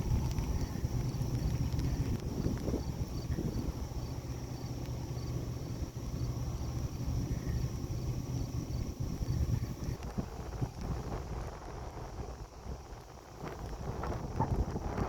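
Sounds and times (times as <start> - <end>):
low rumbling noise: 0.0 - 15.0
night insects chirping: 0.0 - 15.0.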